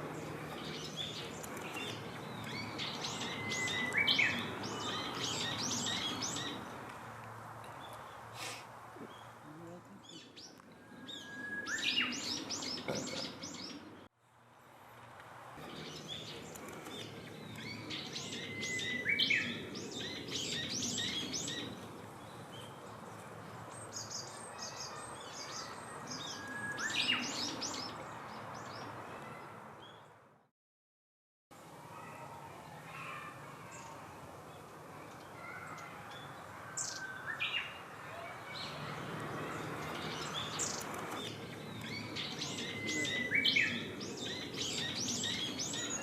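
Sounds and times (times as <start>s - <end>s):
songbird singing: 0.0s - 14.1s, 15.6s - 30.2s, 32.4s - 46.0s
outdoor background noise: 0.0s - 30.5s, 31.5s - 46.0s.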